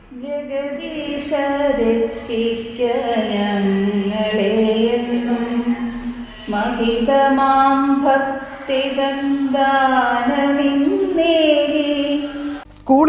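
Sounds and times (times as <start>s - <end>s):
woman singing slow melody: 0.1s - 12.6s.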